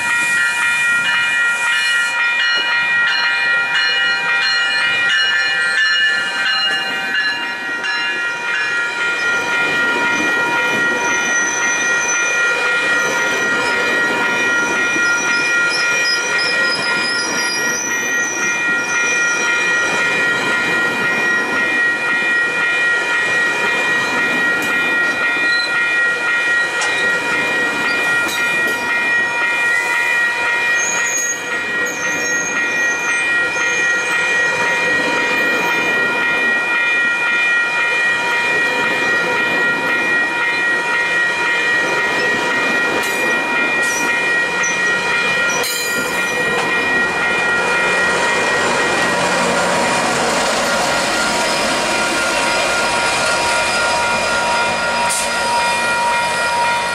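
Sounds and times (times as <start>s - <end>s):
high-pitched ringing tones: 0.0s - 56.9s
train wheels rushing on rails: 0.0s - 56.9s.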